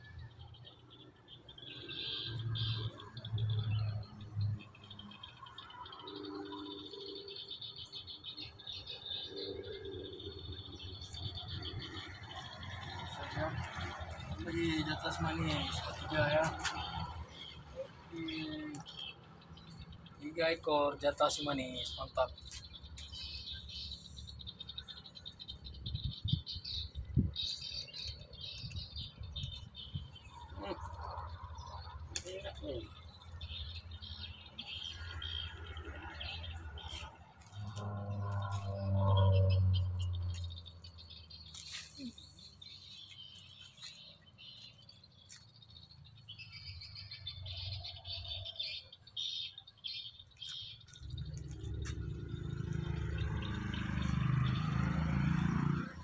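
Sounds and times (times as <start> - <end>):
birds and insects chirping: 0.0 - 56.0.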